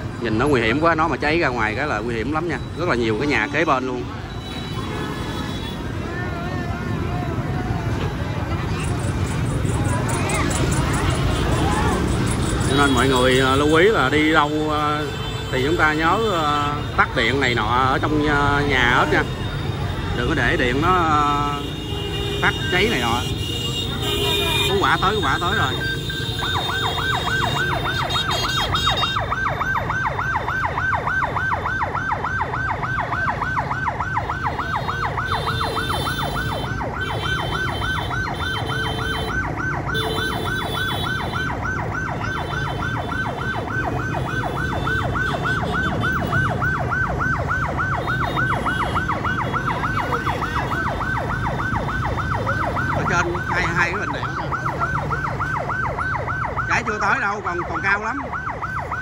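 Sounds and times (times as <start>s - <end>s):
fire engine siren yelping: 0.0s - 59.0s
traffic rumble: 0.0s - 59.0s
idling motorbikes rumbling: 4.5s - 59.0s.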